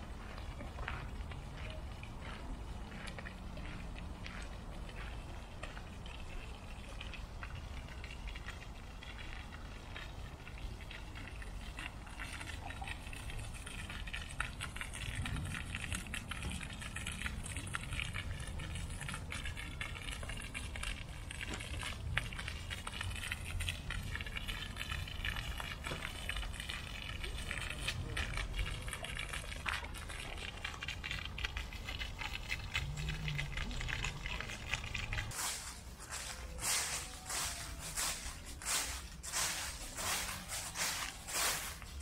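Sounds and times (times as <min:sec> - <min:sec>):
fountain splashing into basin: 0:00.0 - 0:42.0.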